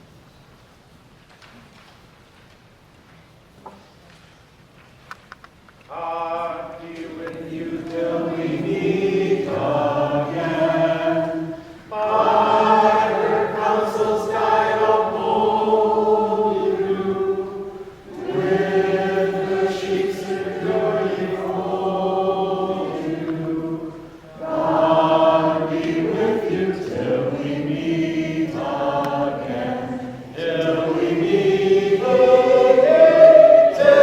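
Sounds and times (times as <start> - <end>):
group singing unaccompanied: 5.9 - 34.0.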